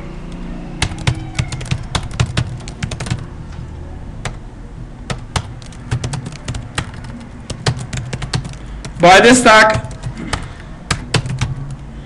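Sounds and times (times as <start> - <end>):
keyboard keys clicking: 0.3 - 3.3, 4.2 - 4.4, 5.1 - 11.8.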